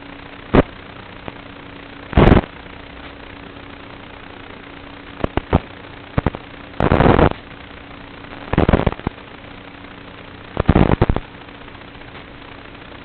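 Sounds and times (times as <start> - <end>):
crackling bursts of wind noise: 0.0 - 13.0
steady hiss: 0.0 - 13.0.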